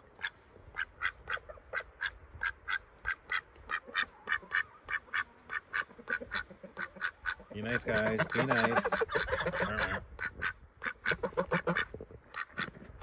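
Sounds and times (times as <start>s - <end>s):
duck quacking: 0.2s - 12.8s.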